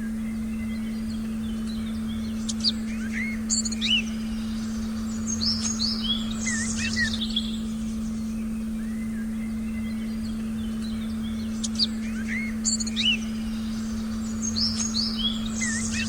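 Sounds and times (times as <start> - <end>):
birds chirping and twittering: 0.0 - 16.0
steady low tone: 0.0 - 16.0.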